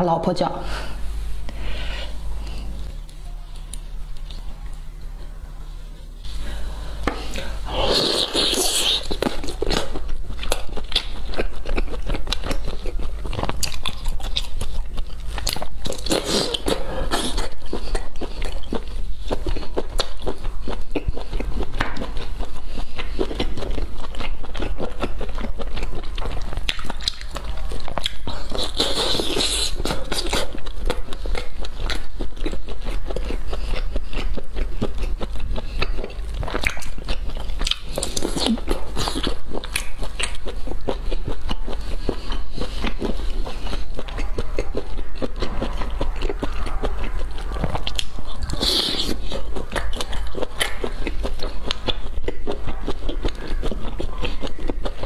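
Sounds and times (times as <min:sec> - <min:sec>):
person chewing and sucking shellfish: 0:06.2 - 0:55.0.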